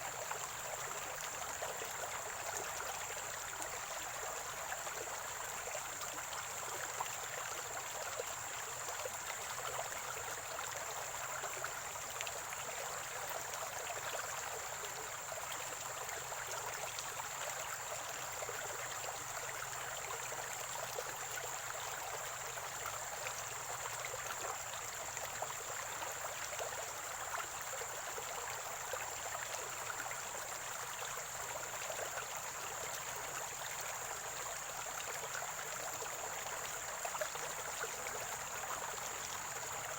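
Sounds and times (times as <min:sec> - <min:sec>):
stream gurgling and trickling: 0:00.0 - 0:39.9.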